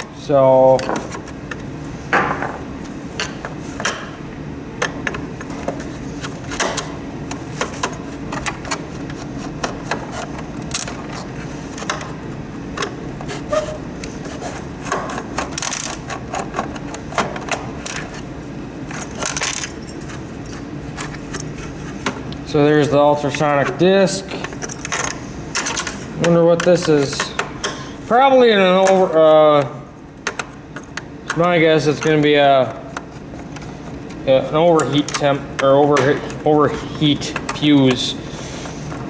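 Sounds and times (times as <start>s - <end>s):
humidifier parts clicking and clunking: 0.0s - 39.0s
steady low hum: 0.0s - 39.0s.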